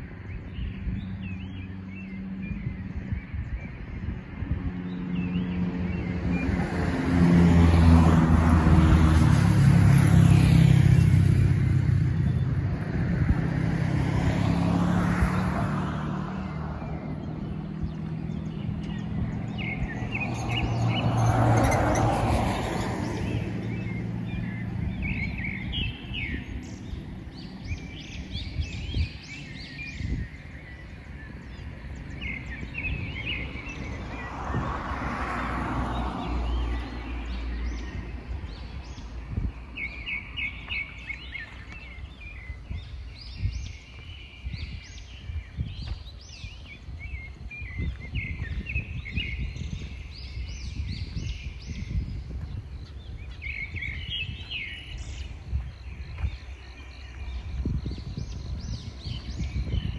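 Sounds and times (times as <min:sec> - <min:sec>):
birds chirping: 0:00.0 - 0:59.9
low engine hum: 0:00.0 - 0:59.9
vehicles passing: 0:00.0 - 0:59.9.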